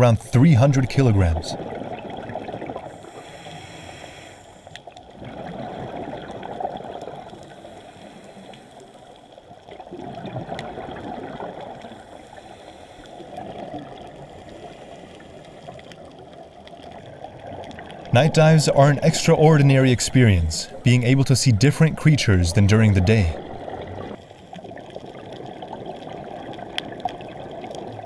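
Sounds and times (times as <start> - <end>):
underwater rushing water: 0.7 - 28.0.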